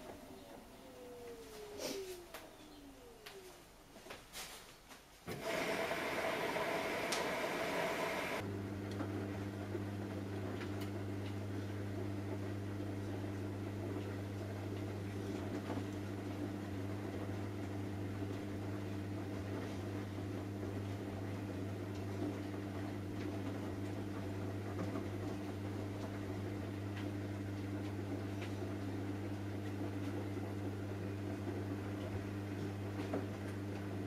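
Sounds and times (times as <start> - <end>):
washing machine motor hum: 0.0 - 3.9, 5.3 - 34.0.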